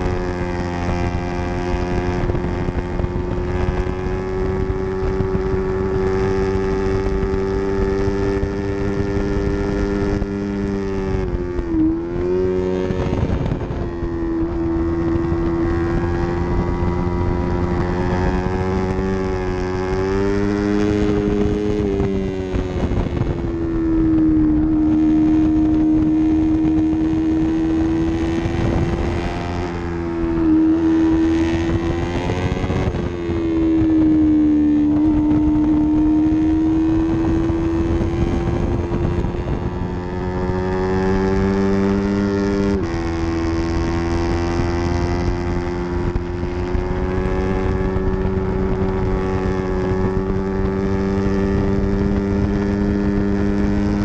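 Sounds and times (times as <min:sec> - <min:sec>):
gear change: 0:00.0 - 0:54.0
motorcycle engine revving high: 0:00.0 - 0:54.0.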